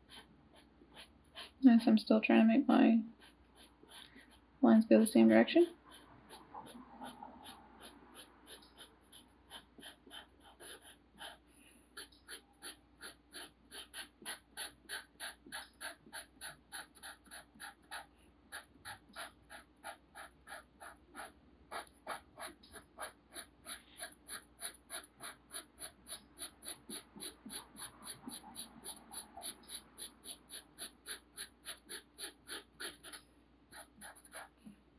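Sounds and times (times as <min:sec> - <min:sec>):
marker scratching on paper: 0:00.0 - 0:02.0, 0:03.1 - 0:34.6.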